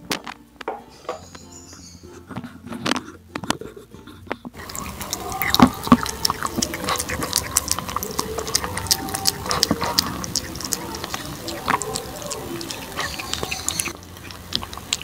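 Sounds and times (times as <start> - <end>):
cat chewing wet food: 2.2 - 15.0.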